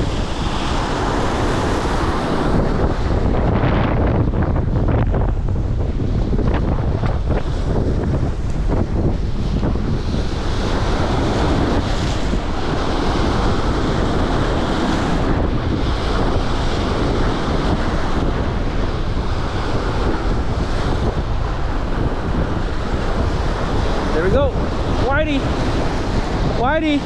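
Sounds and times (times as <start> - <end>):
waves washing against boat: 0.0 - 27.0
wind buffeting microphone: 0.0 - 27.0.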